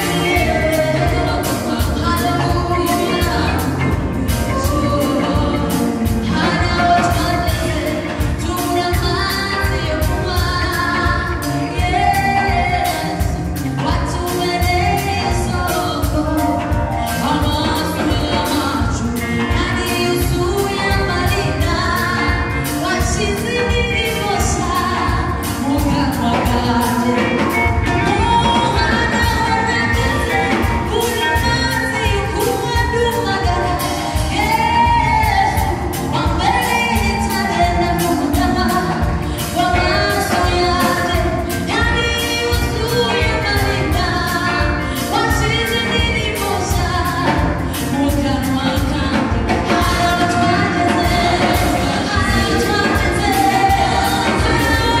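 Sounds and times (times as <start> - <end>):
band with steady drum beat: 0.0 - 55.0
gospel singing: 0.0 - 55.0.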